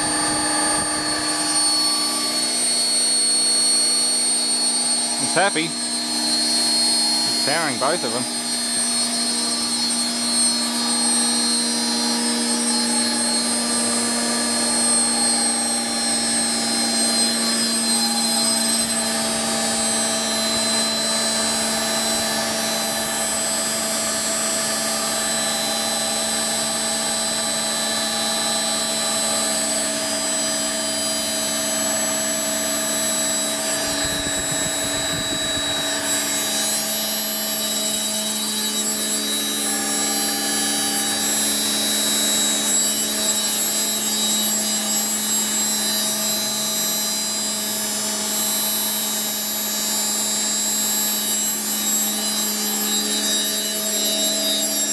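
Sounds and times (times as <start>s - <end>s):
generator and motor humming: 0.0s - 54.9s.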